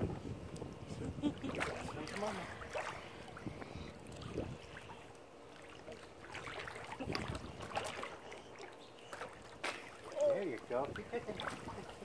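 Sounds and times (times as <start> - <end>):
pool water splashing: 1.1 - 12.0.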